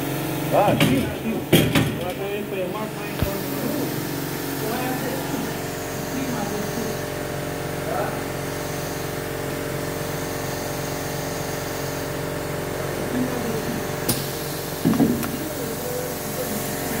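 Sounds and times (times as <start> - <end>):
pneumatic machine humming: 0.0 - 17.0.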